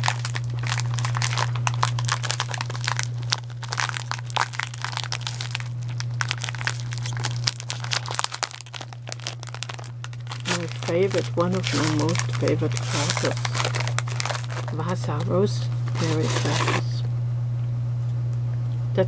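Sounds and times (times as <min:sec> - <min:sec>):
wrapper crinkling and crackling: 0:00.0 - 0:17.0
steady low hum: 0:00.0 - 0:19.0.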